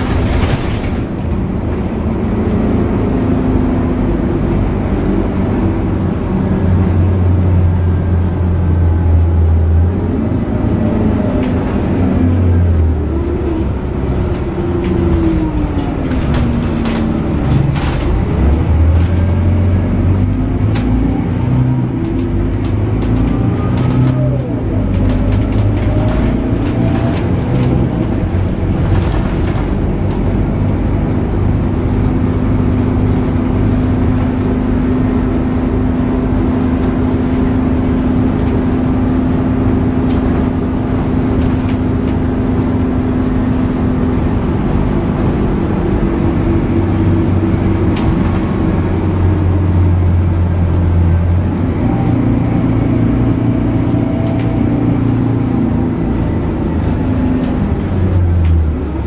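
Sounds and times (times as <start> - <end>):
bus diesel engine hum: 0.0 - 59.0
road noise: 0.0 - 59.0.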